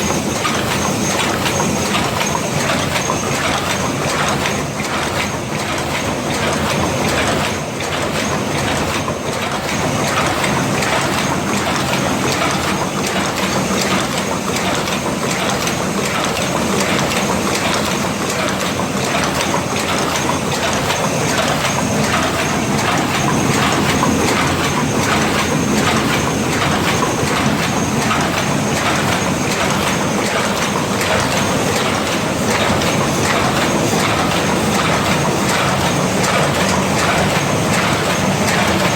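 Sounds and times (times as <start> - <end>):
paper cup machine clattering: 0.0 - 38.9.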